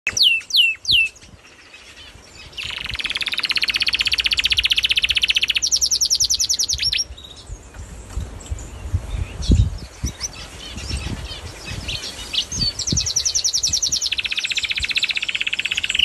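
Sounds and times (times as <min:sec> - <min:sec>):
birds singing whistles and trills: 0:00.0 - 0:16.0.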